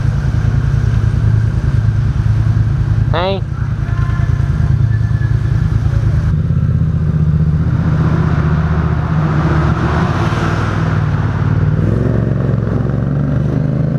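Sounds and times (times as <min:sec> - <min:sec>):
vehicle engine and exhaust running: 0:00.0 - 0:13.9.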